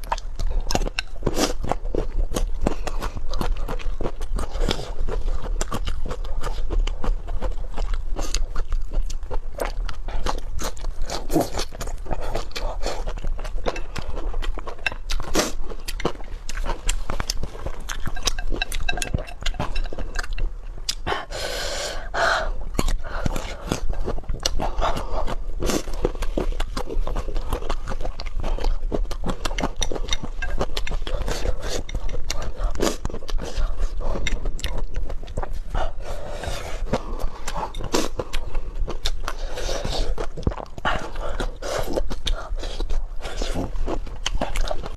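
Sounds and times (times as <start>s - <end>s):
person chewing and crunching: 0.0s - 44.9s.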